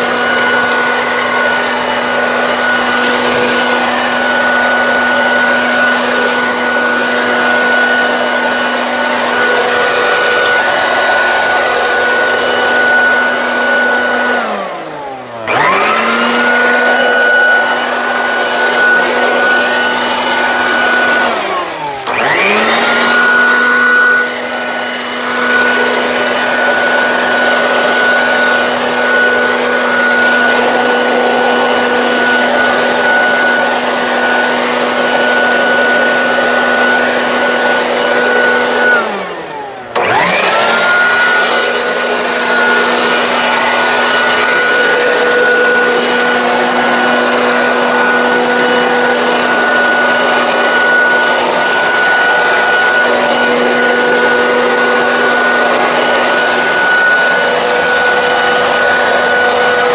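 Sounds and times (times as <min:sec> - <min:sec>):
electric leaf blower running: 0:00.0 - 0:59.9.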